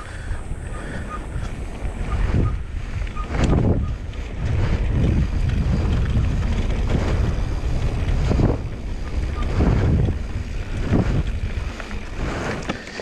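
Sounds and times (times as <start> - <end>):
bike tyre rumble: 0.0 - 13.0
wind rushing over microphone: 0.0 - 13.0.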